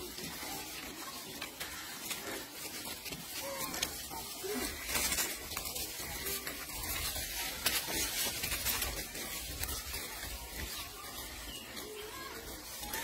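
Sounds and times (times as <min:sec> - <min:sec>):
pea pods and leaves crackling: 0:00.0 - 0:13.0.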